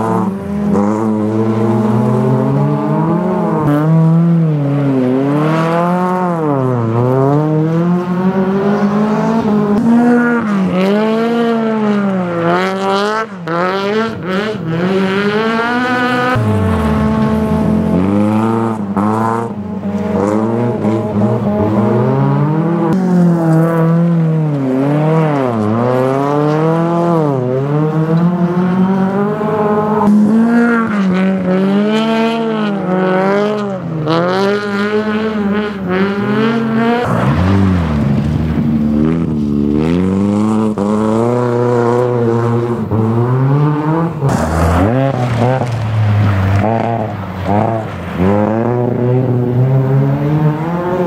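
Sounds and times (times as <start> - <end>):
race car engines revving: 0.0 - 51.0.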